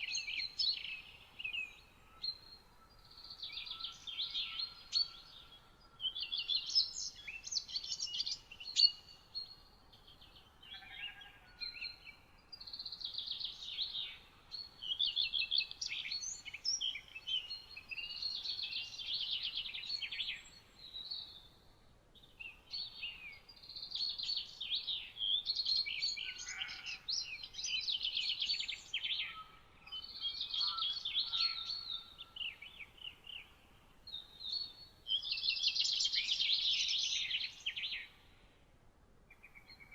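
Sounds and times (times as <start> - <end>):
songbirds twittering: 0.0 - 38.6, 39.3 - 39.9.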